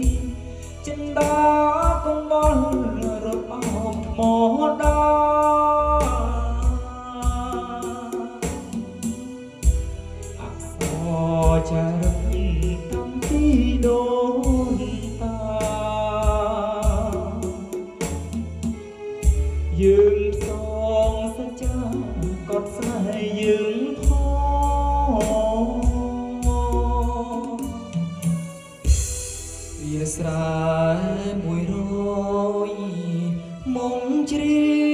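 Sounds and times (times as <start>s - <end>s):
booming bass notes: 0.0s - 22.5s, 24.0s - 32.4s
man singing into a microphone: 0.0s - 28.4s, 29.8s - 34.9s
karaoke backing track: 0.0s - 34.9s.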